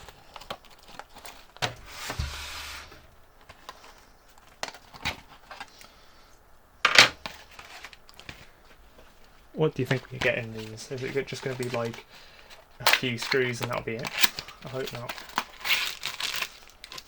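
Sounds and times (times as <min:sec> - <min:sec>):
packaging rustling: 0:00.0 - 0:05.9, 0:07.2 - 0:17.0.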